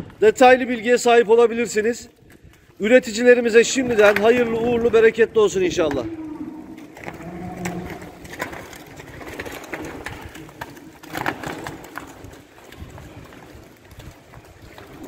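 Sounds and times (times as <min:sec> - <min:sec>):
cattle knocking and shuffling: 0:00.0 - 0:15.0.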